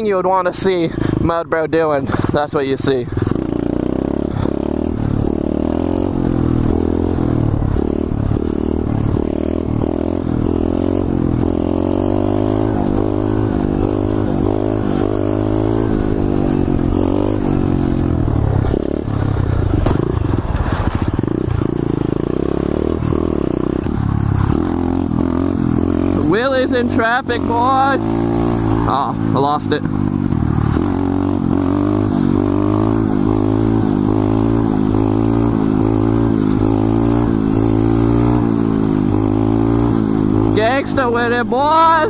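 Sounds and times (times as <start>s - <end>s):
motorbike engine revving: 0.0s - 42.0s.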